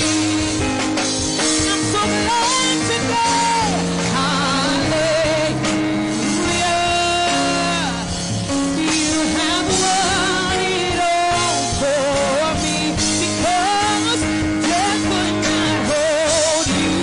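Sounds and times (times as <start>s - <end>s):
live band with chords and drums: 0.0s - 17.0s
woman singing with vibrato: 1.6s - 17.0s.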